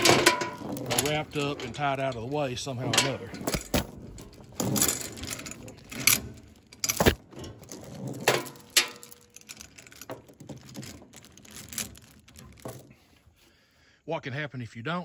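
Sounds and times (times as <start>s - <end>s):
steel chain clinking and rattling: 0.0s - 13.2s.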